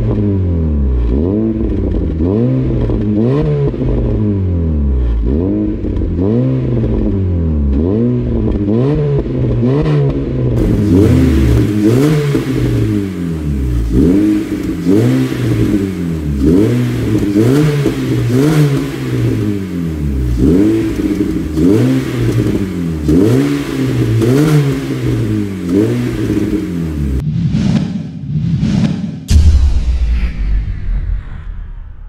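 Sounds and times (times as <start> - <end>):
car engine revving in blips: 0.0 - 27.2.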